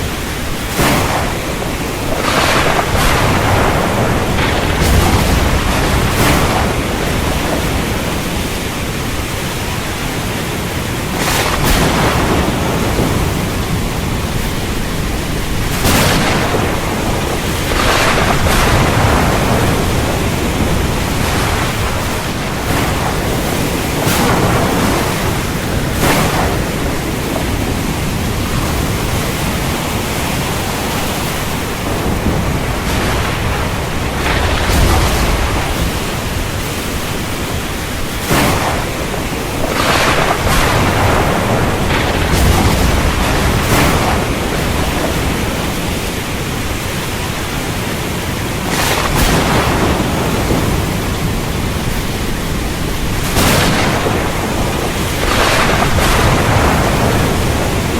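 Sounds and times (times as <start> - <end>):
heavy rain: 0.0 - 57.9
thunder cracks: 0.0 - 57.9.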